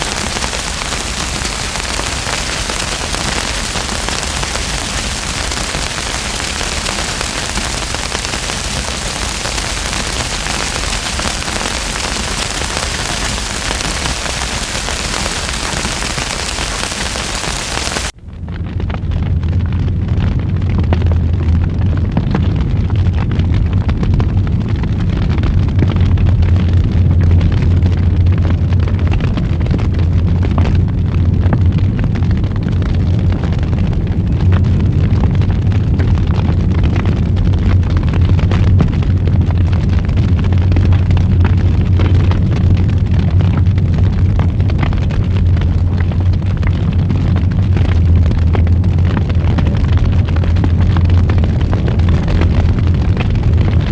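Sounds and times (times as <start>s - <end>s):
burning wood crackling and popping: 0.0s - 53.9s
fire flames rumbling: 0.0s - 53.9s.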